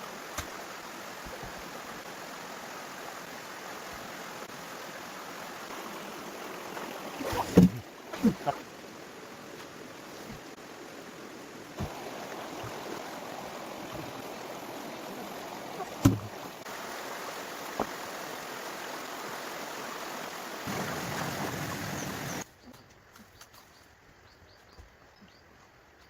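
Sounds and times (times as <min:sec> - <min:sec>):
flowing water rushing: 0:00.0 - 0:22.4.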